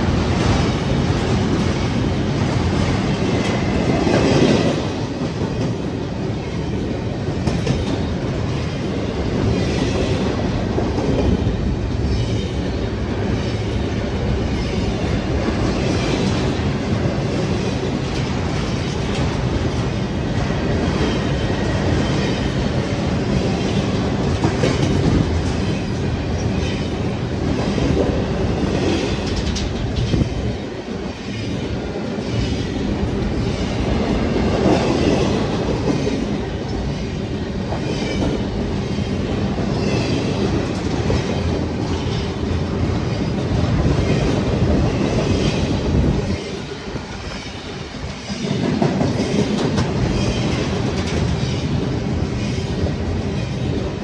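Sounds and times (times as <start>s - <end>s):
clickety-clack over rail joints: 0.0s - 54.0s
steel wheels rumbling on rail: 0.0s - 54.0s.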